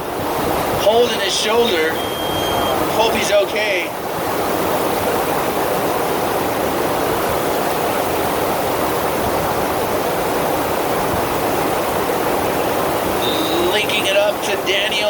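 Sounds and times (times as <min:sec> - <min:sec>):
water rushing over wave surface: 0:00.0 - 0:15.0.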